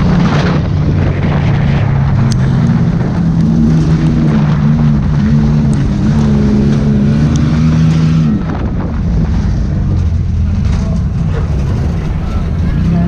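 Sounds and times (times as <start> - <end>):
race car engine running hard: 0.0 - 13.0
road noise: 0.0 - 13.0.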